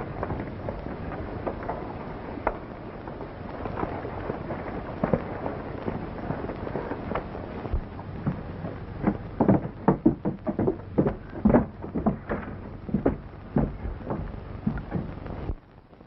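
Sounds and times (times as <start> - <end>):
loud footsteps: 0.0 - 15.6
film soundtrack hiss and crackle: 0.0 - 16.0.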